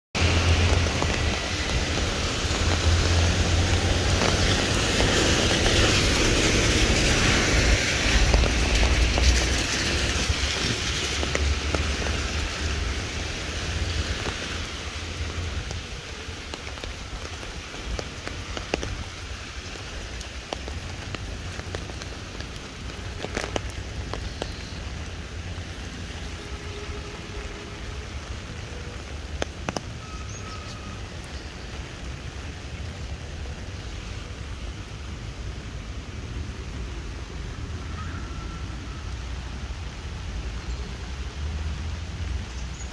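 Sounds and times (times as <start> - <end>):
rain on wet paving: 0.2 - 42.9.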